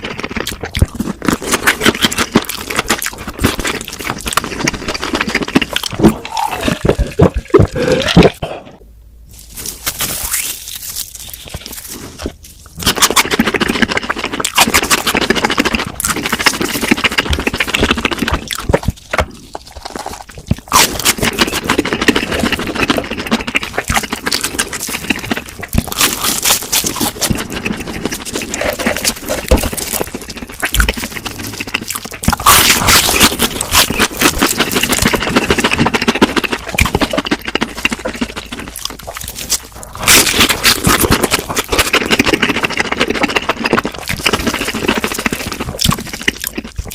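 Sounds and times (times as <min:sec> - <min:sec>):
crunching crispy food: 0:00.0 - 0:08.4, 0:09.3 - 0:46.9.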